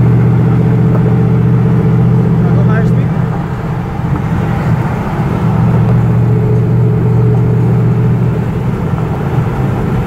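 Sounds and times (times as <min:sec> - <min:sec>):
car engine drone: 0:00.0 - 0:10.0
road noise inside car: 0:00.0 - 0:10.0.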